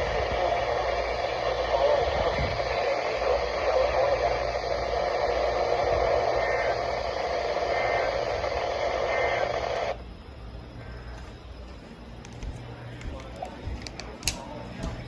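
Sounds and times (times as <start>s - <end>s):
low hum: 0.0s - 15.0s
radio static hiss: 0.0s - 15.0s.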